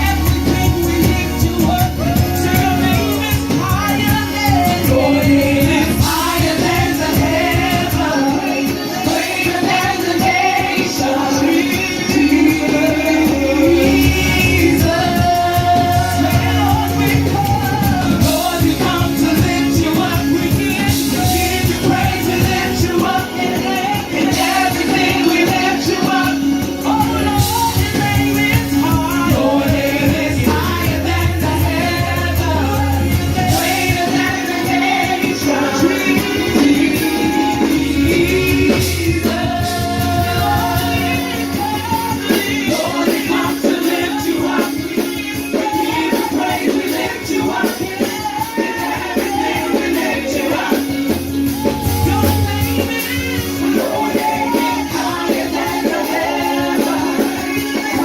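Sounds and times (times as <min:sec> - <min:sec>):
singers over a band: 0:00.0 - 0:58.0.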